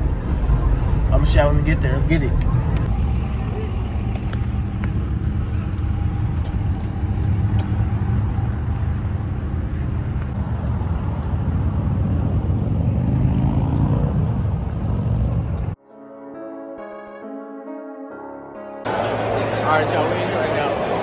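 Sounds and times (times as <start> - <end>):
road traffic rumble: 0.0 - 15.8, 18.9 - 21.0.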